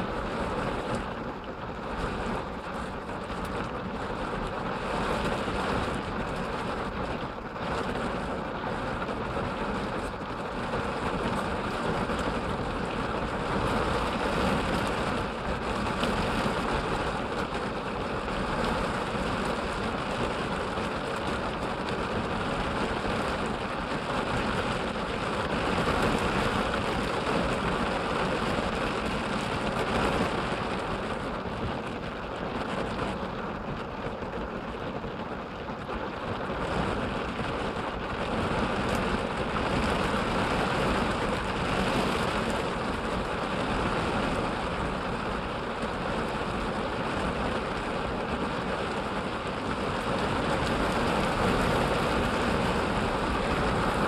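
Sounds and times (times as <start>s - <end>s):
heavy rain drumming on vehicle roof: 0.0s - 54.0s.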